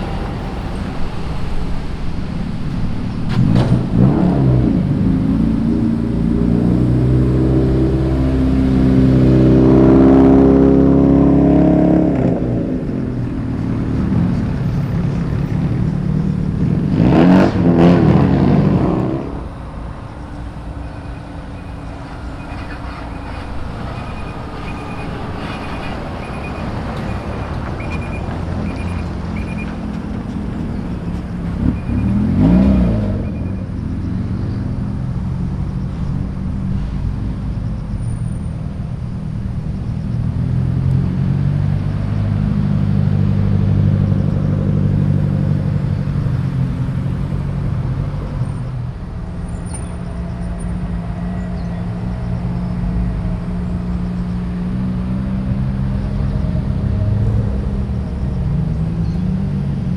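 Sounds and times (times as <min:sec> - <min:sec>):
car engines revving: 0:00.0 - 0:59.9
cars driving past: 0:00.0 - 0:59.9.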